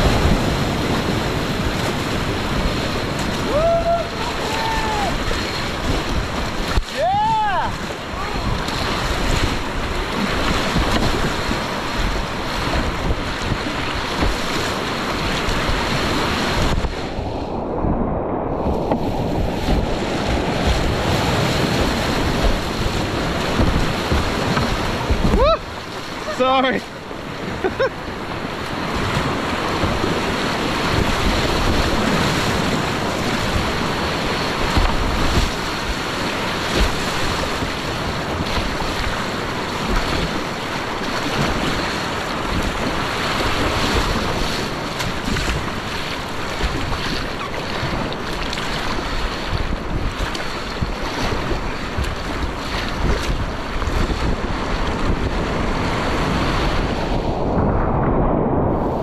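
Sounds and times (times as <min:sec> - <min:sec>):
whitewater rapids rushing: 0:00.0 - 0:17.9, 0:18.7 - 0:57.7
wind buffeting microphone: 0:00.0 - 0:59.0.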